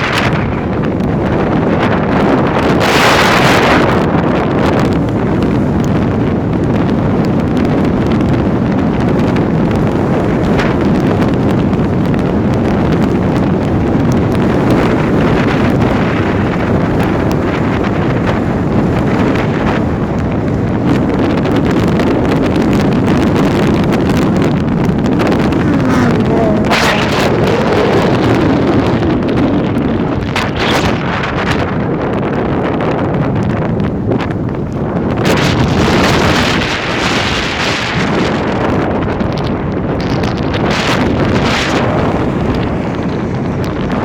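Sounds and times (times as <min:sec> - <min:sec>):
road and engine rumble: 0:00.0 - 0:44.0
wind buffeting microphone: 0:00.0 - 0:44.0.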